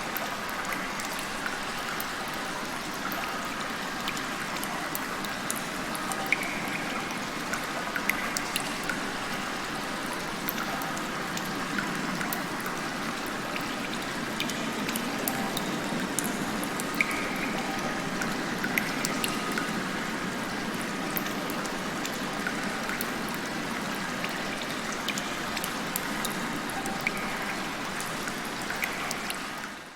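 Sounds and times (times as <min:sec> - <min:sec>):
rain falling: 0:00.0 - 0:29.9
sharp water drips: 0:00.0 - 0:29.9.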